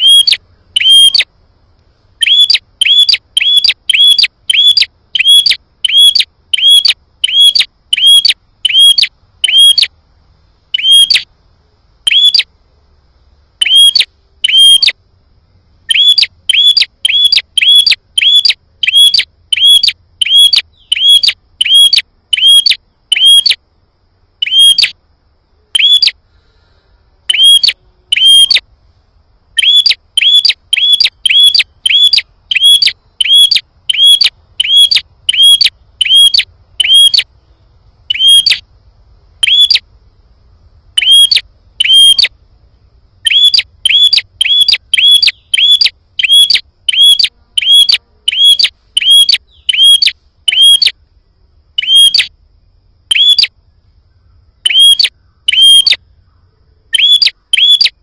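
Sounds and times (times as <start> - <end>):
bird chirping: 0.0 - 1.3, 2.2 - 10.0, 10.7 - 11.3, 12.0 - 12.5, 13.6 - 15.0, 15.8 - 23.6, 24.4 - 28.7, 29.5 - 38.7, 39.4 - 39.9, 40.9 - 51.0, 51.8 - 58.0.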